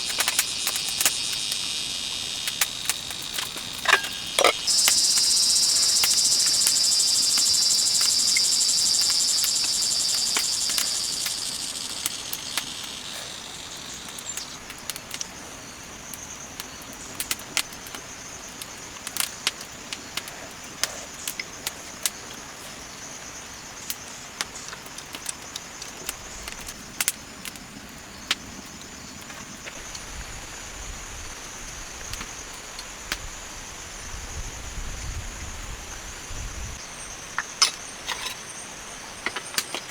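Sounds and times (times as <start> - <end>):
high insect whine: 0.0 - 39.9
insects buzzing: 0.0 - 39.9.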